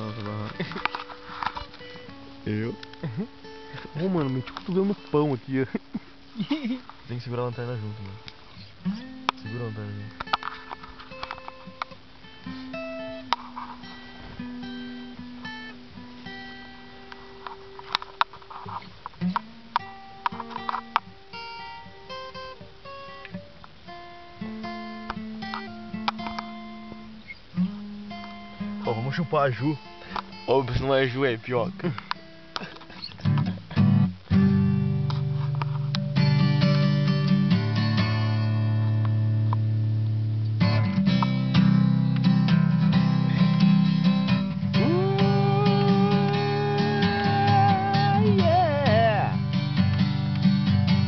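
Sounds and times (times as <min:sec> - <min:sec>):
acoustic guitar notes and chords: 0:00.0 - 0:51.0.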